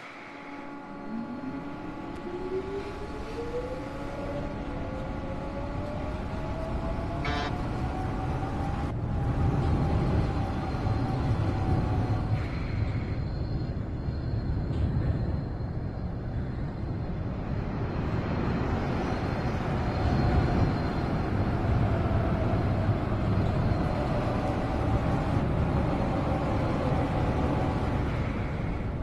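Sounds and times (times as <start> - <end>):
faint train whine: 0.0 - 29.0
subway train low rumble: 0.0 - 29.0.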